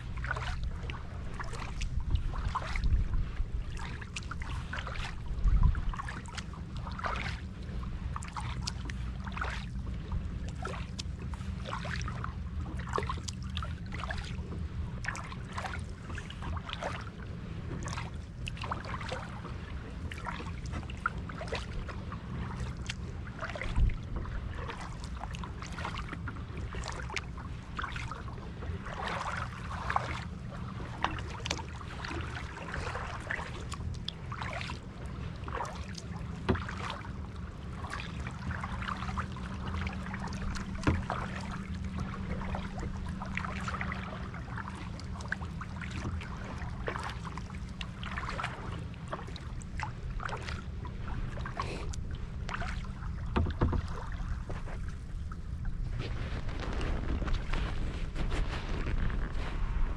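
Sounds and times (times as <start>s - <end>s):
paddle splashing water: 0.0s - 59.9s
steady low rumble: 0.0s - 59.9s.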